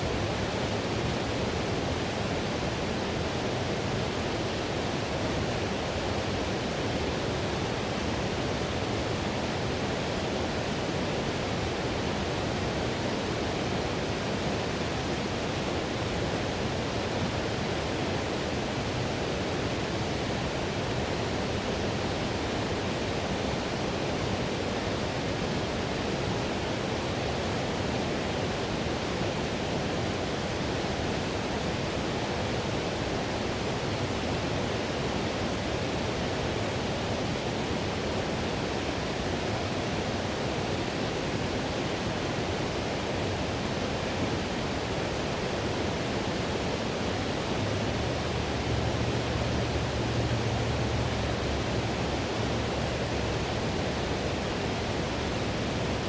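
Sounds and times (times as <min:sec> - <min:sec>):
whitewater river rushing: 0:00.0 - 0:56.0.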